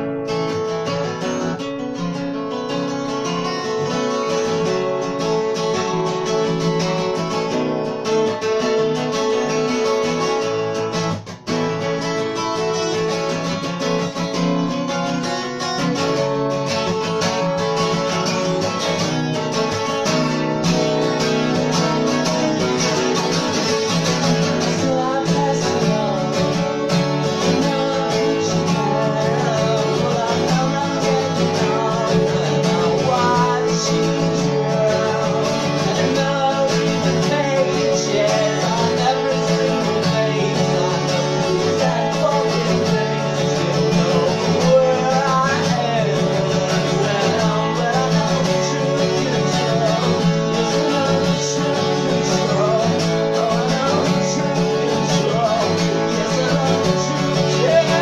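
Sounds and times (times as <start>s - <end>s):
man singing: 0.0s - 11.0s, 12.0s - 58.0s
twelve-string acoustic guitar strumming: 0.0s - 58.0s.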